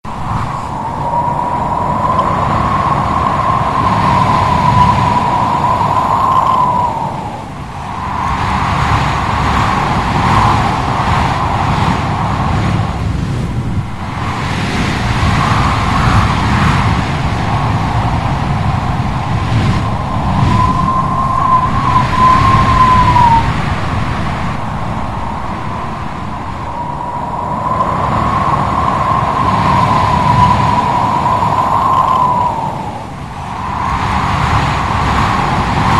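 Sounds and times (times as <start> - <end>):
gusting wind: 0.0 - 35.9
wind whistling: 0.0 - 35.9.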